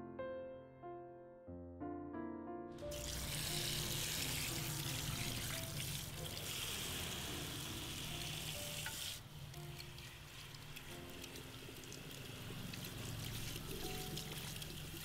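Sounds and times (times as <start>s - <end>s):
soft background music: 0.0s - 15.0s
shower head spraying water: 2.9s - 15.0s.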